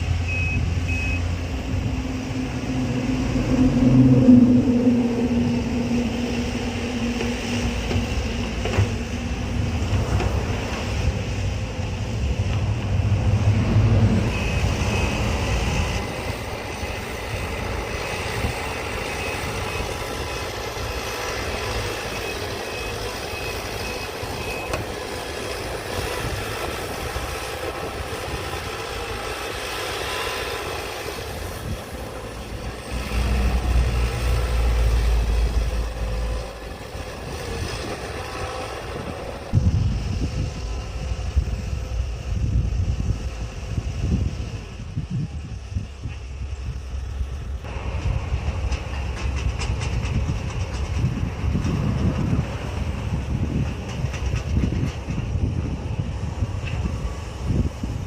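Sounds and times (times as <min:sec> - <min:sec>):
large engine rumbling: 0:00.0 - 0:58.0.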